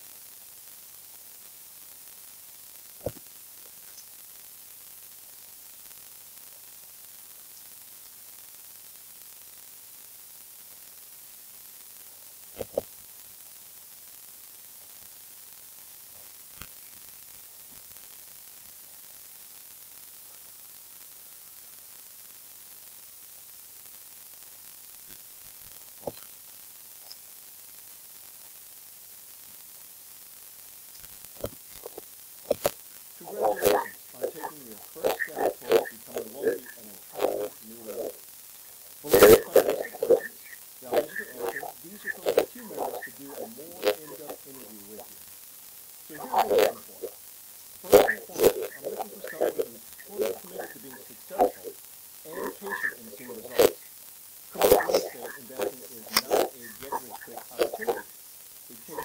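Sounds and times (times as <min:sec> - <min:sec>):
microphone hiss: 0:00.0 - 0:59.0.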